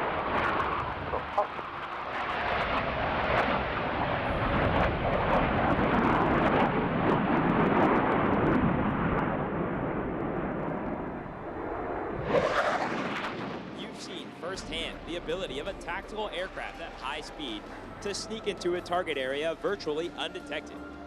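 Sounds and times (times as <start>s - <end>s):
jets roaring overhead: 0.0s - 21.0s.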